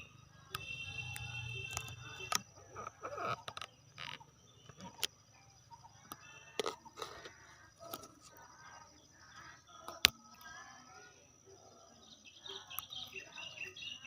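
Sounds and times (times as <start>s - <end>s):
faint bird chirps: 0.0s - 14.0s
high insect drone: 0.0s - 14.0s.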